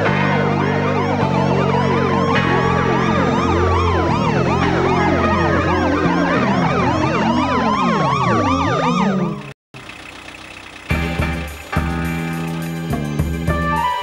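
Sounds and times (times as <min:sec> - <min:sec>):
police sirens wailing: 0:00.0 - 0:10.0, 0:10.8 - 0:14.0.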